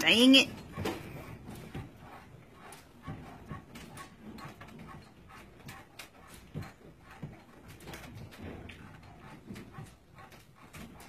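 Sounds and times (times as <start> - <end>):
apartment creaking and rattling: 0.0 - 11.0.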